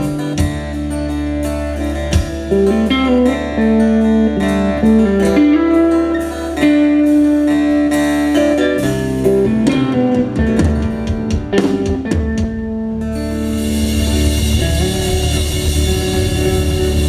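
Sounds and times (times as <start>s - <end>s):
bass: 0.0s - 17.0s
drums: 0.0s - 17.0s
electric guitar lines: 0.0s - 17.0s.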